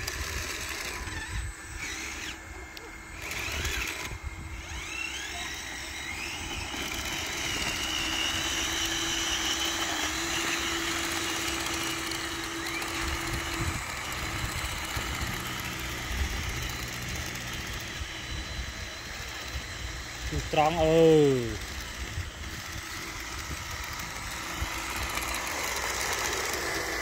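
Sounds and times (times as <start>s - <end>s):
small electric motors whining: 0.0s - 27.0s.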